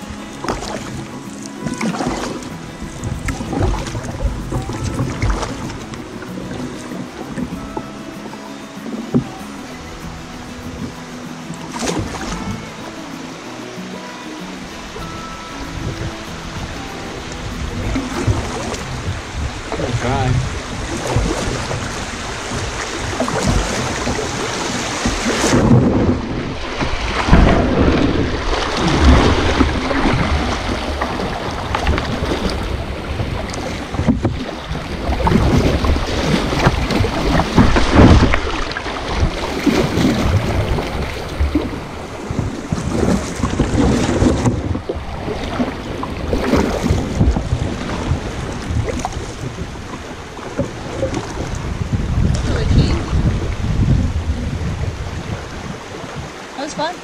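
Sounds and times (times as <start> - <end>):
paddle splashes: 0.0 - 57.0
rushing water: 0.0 - 57.0
wind buffeting microphone: 0.0 - 57.0.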